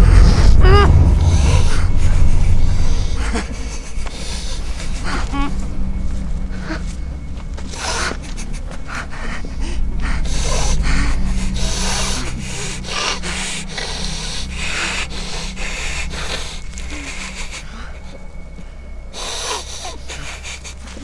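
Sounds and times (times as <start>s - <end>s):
man breathing heavily: 0.0s - 21.0s
steady low drone: 0.0s - 21.0s.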